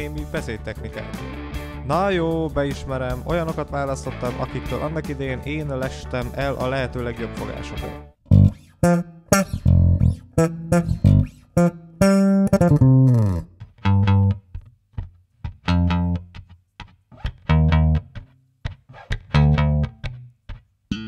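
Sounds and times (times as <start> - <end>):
electric bass guitar plucked notes: 0.0 - 21.0.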